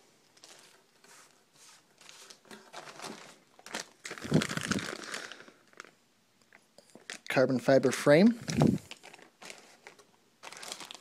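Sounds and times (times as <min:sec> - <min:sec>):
plastic bag crinkling: 0:00.3 - 0:06.0, 0:06.9 - 0:07.4, 0:08.3 - 0:11.0.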